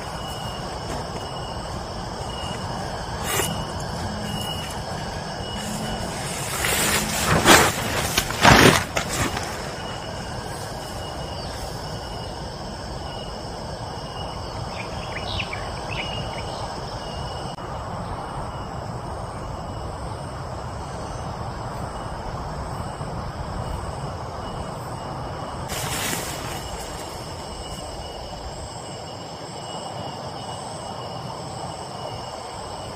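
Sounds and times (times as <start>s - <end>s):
insects buzzing: 0.0s - 32.9s.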